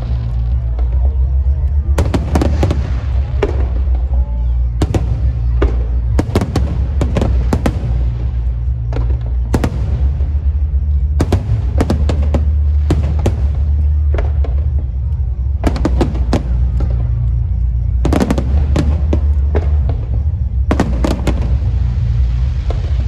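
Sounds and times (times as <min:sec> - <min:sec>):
fireworks banging: 0:00.0 - 0:23.0
low rumble: 0:00.0 - 0:23.0.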